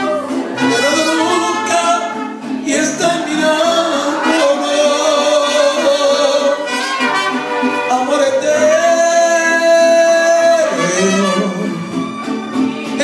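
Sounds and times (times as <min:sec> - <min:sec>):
man singing into microphone: 0:00.0 - 0:12.2
mariachi band playing ballad: 0:00.0 - 0:13.0.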